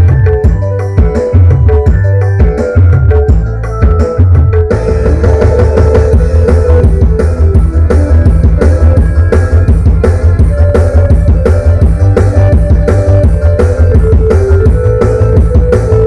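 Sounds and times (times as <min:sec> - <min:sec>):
rock music with heavy bass: 0:00.0 - 0:16.0.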